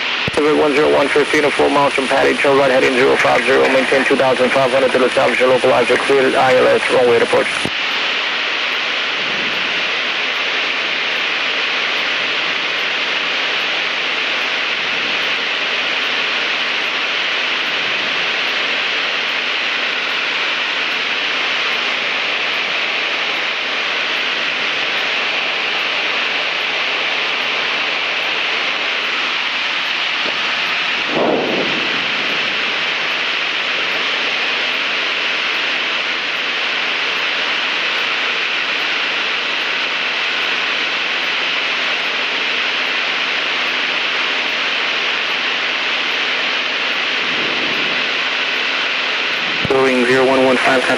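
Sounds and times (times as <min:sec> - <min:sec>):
steady radio hiss: 0:00.0 - 0:50.9.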